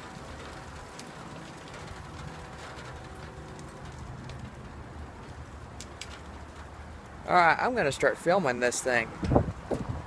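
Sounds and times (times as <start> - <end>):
light rain hissing: 0.0 - 10.0
raindrops tapping: 0.0 - 10.0.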